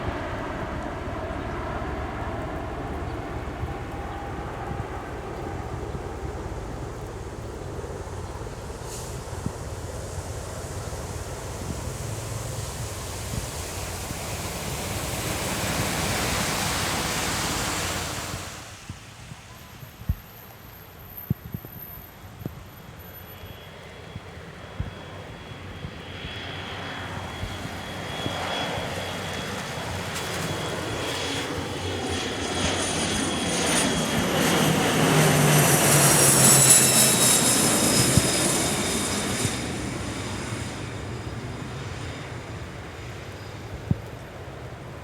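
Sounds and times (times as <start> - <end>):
jet passing by with high whine: 0.0 - 45.0.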